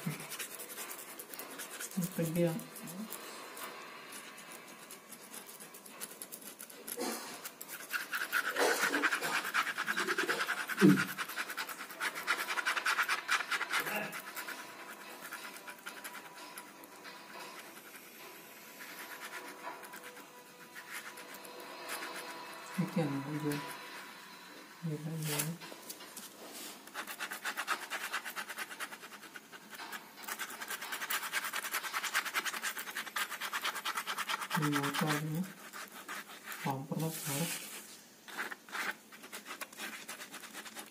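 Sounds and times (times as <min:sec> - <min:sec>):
ballpoint pen scratching: 0:00.0 - 0:24.0, 0:26.8 - 0:37.5, 0:38.3 - 0:40.9.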